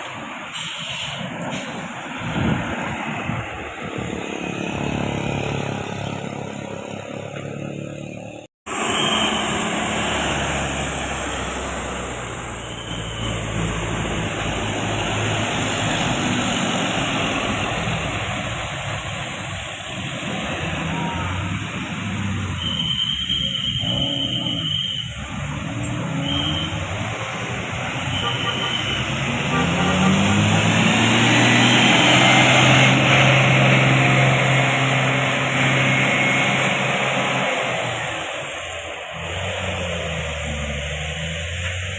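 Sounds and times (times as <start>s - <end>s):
passing vehicle engine and tyres: 0.0s - 41.9s.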